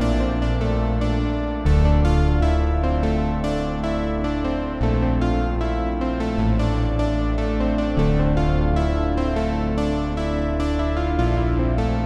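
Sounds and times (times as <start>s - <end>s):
synthesizer chords over bass: 0.0s - 12.0s.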